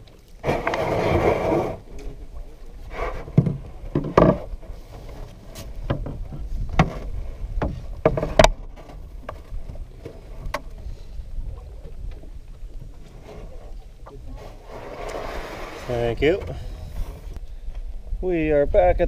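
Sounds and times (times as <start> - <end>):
wooden paddle knocking boat: 0.4 - 17.4.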